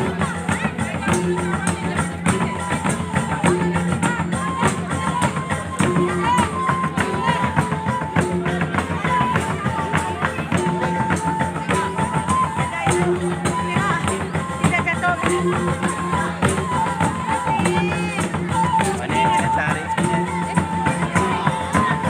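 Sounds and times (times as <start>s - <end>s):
fast drum strokes: 0.0s - 22.0s
high wind instrument melody: 0.0s - 22.0s.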